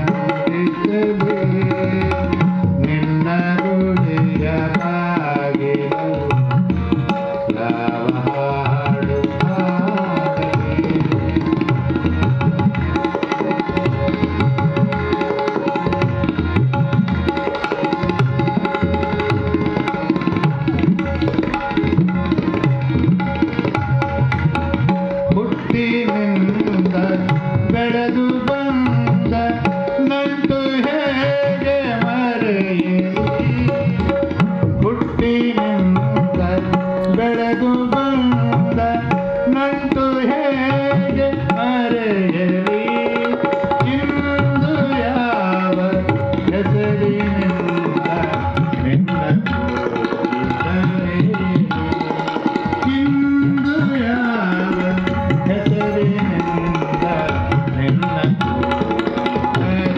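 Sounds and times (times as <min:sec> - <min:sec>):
harmonium: 0:00.0 - 0:59.9
man singing: 0:00.0 - 0:59.9
tabla rhythm: 0:00.0 - 0:59.9.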